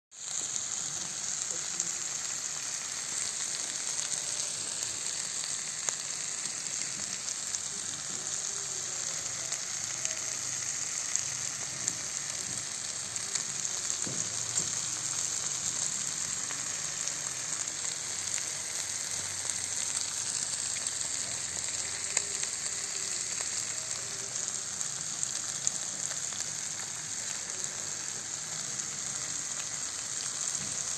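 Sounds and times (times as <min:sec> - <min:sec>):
food sizzling on a griddle: 0:00.1 - 0:30.9.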